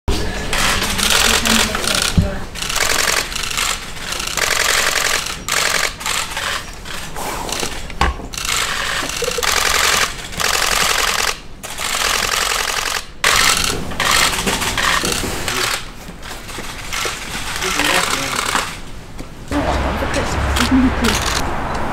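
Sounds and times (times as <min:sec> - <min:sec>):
camera shutters clicking: 0:00.5 - 0:15.9, 0:16.6 - 0:18.8, 0:20.6 - 0:21.4.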